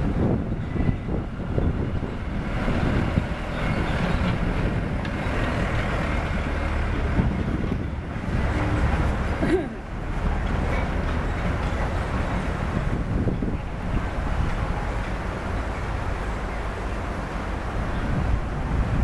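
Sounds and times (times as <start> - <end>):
heavy diesel machinery rumbling: 0.0 - 19.0.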